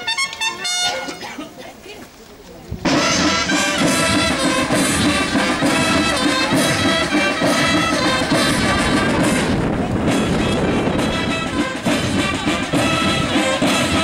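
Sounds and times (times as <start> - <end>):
brass band music: 0.0 - 1.4, 2.8 - 14.0.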